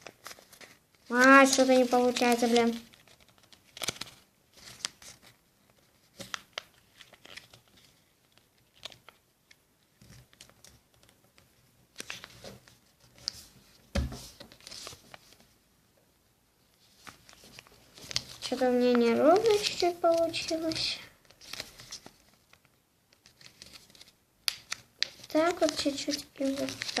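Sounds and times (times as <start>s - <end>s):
paper rustling and crinkling: 0.0s - 15.5s, 16.7s - 27.0s.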